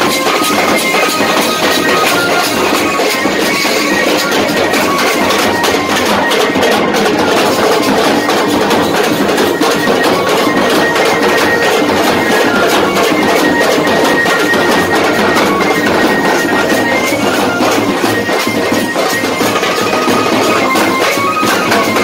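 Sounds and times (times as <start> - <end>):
double-headed drums beaten rapidly: 0.0 - 22.0
reedy wind instrument notes: 0.0 - 22.0.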